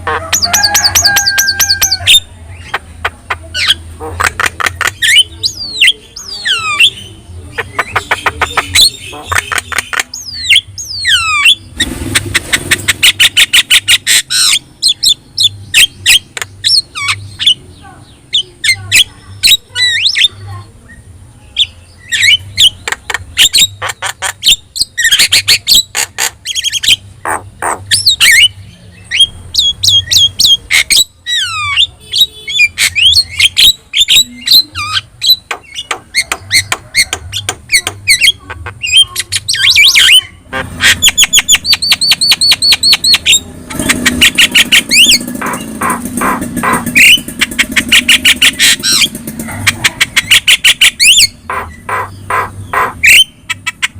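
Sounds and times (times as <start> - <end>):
myna singing and squawking: 0.0 - 53.9.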